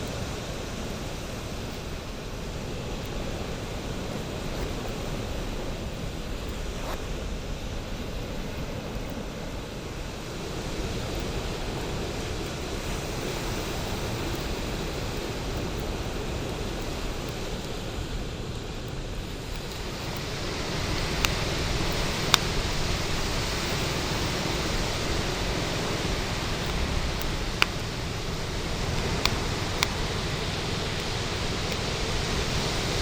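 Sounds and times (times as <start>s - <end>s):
fire pops and crackles: 0.0s - 33.0s
bonfire rushing and rumbling: 0.2s - 33.0s.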